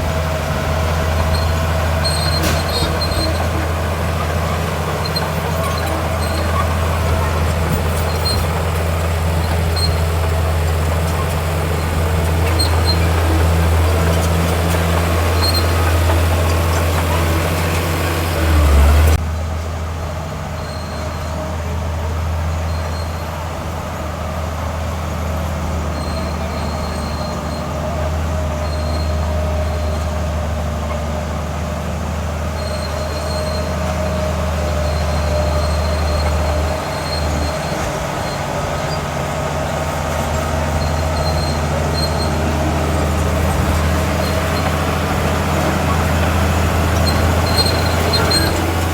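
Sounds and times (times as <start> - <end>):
diesel construction machinery humming: 0.0 - 48.9.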